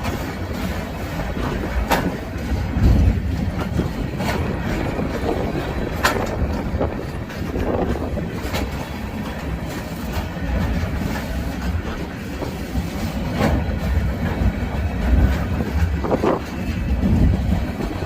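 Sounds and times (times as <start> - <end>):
rumble of rolling railcars: 0.0 - 18.0
wheels clacking over rail joints: 0.0 - 18.0.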